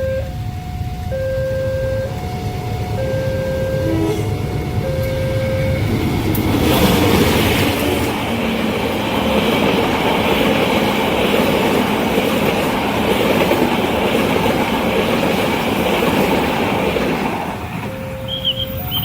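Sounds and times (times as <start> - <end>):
train wheels rushing on rail: 0.2 - 19.0.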